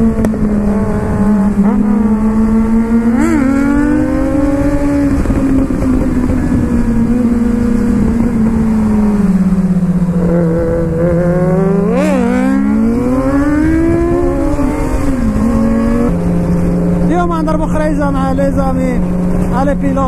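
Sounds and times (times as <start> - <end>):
motorcycle engine revving: 0.0 - 20.0
wind rush on microphone: 0.0 - 20.0.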